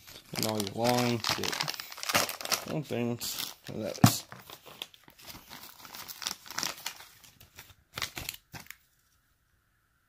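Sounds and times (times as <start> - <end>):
plastic and cardboard packaging rustling: 0.0 - 9.2.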